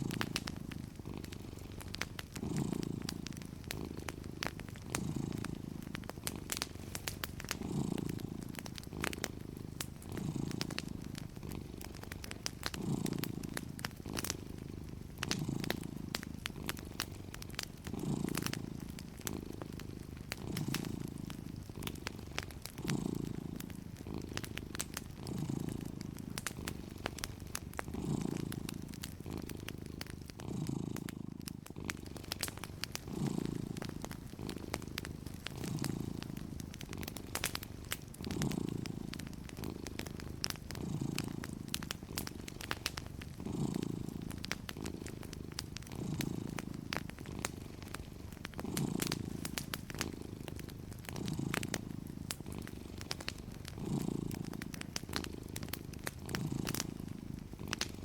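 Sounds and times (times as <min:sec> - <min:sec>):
cat purring: 0:00.0 - 0:58.0
crackling wood fire: 0:00.0 - 0:58.0.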